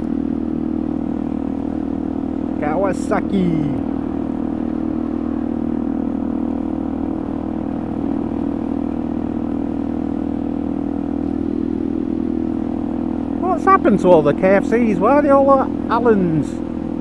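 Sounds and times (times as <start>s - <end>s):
motorcycle engine humming: 0.0s - 17.0s.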